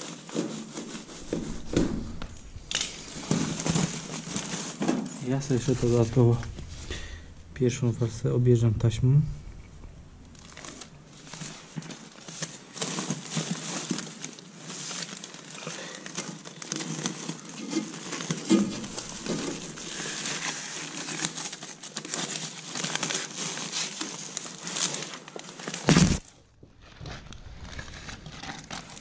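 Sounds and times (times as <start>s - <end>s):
foil and paper crinkling: 0.0s - 8.2s, 10.3s - 29.0s.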